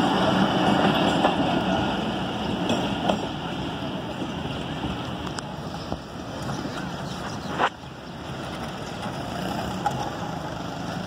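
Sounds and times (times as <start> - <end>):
train running on tracks: 0.0 - 11.0.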